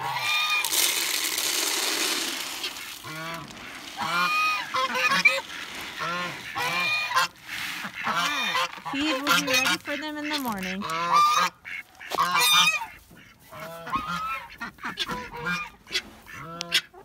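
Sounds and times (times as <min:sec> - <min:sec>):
geese honking: 0:00.0 - 0:00.9, 0:02.0 - 0:17.0.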